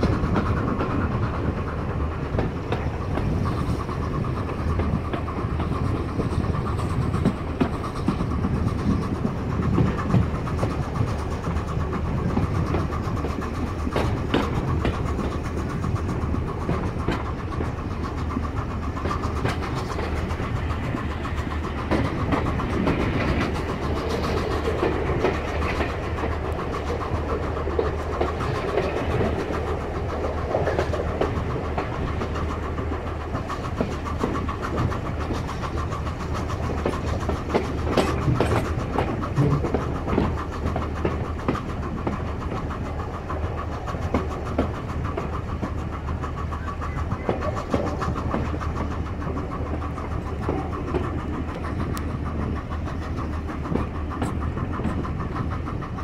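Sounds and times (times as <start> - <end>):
sharp clicks and knocks: 0.0 - 56.0
train wheels rumbling on rails: 0.0 - 56.0.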